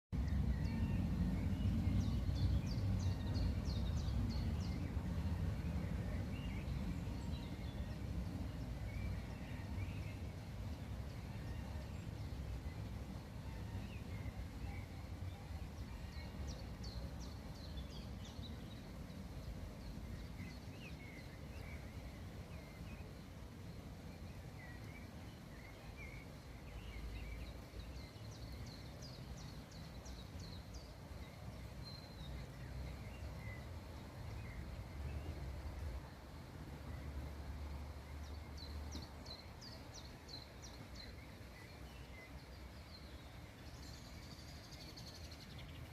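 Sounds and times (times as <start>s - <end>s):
small birds chirping: 0.2s - 45.9s.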